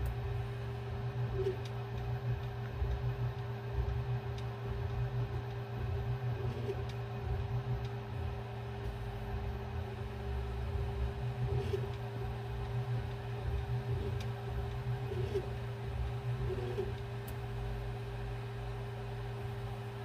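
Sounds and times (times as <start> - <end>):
fan hum: 0.0 - 20.0.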